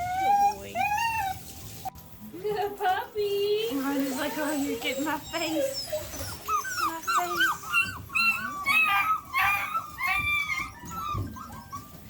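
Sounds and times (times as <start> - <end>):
puppies whining and yelping: 0.0 - 2.0, 4.0 - 12.0.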